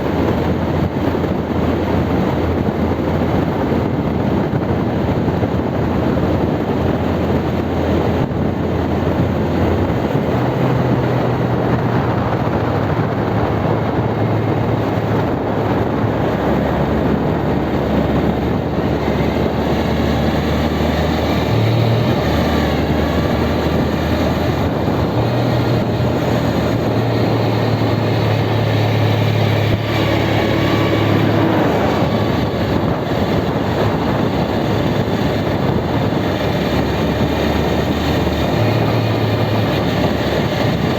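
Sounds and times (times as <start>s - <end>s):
motorcycle engine running: 0.0s - 40.9s
wind noise: 0.0s - 40.9s
transmission whine: 6.2s - 40.9s.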